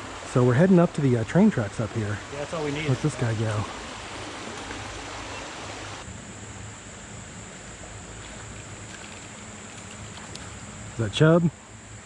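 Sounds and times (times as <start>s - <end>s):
creek water rushing: 0.0s - 6.1s, 6.8s - 11.9s.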